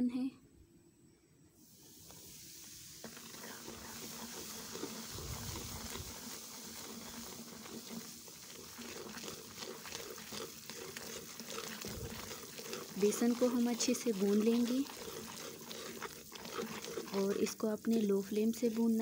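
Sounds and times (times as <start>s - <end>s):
batter sizzling in hot oil: 1.6s - 19.0s
wooden spatula scraping a pan: 2.1s - 19.0s.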